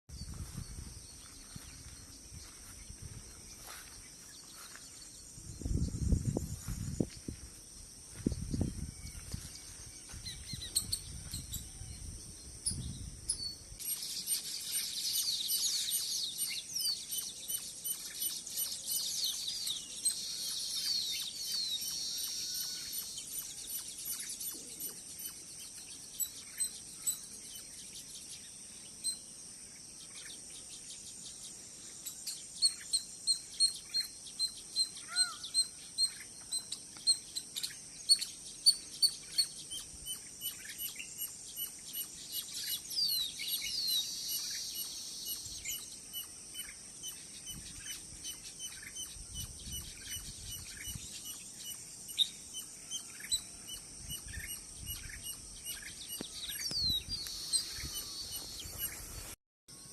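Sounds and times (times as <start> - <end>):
birds chirping and trilling: 0.1 - 59.9.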